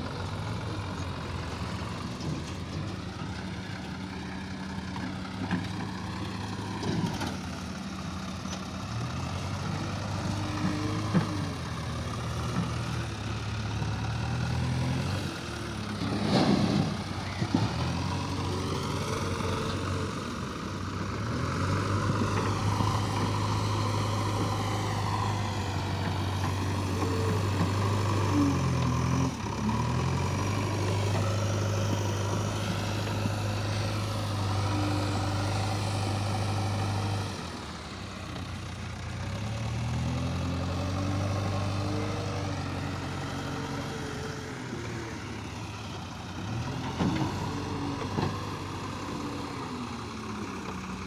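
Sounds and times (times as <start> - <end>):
diesel engine revving: 0.0 - 51.0
tractor engine: 0.0 - 51.0.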